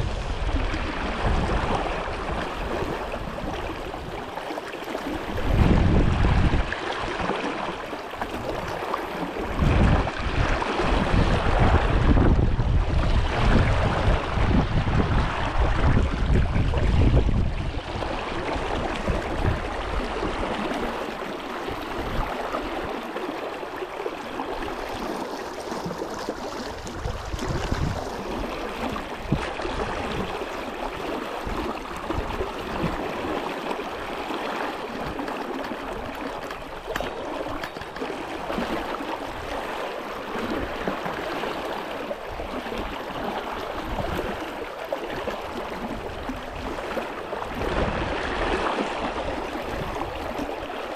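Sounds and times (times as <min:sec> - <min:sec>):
brook water flowing: 0:00.0 - 0:50.9.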